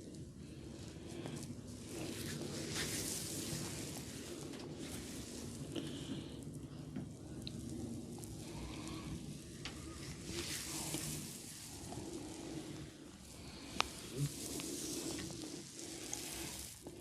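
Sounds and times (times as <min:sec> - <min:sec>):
hair rubbing crackling rustle: 0:00.0 - 0:17.0.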